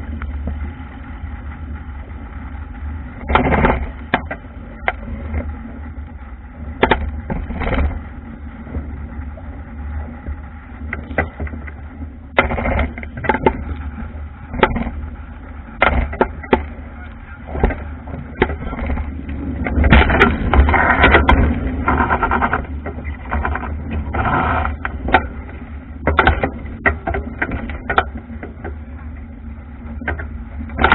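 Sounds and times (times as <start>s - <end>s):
wind rumbling on microphone: 0.0s - 30.9s.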